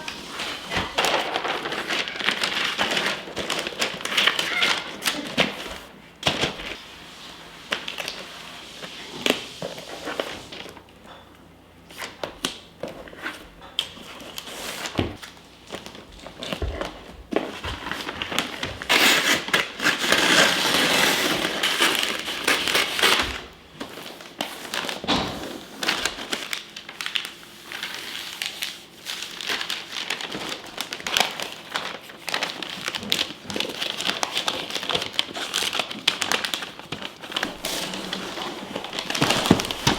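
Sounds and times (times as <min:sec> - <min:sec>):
crinkling and rustling: 0:00.0 - 0:11.1, 0:12.0 - 0:39.9.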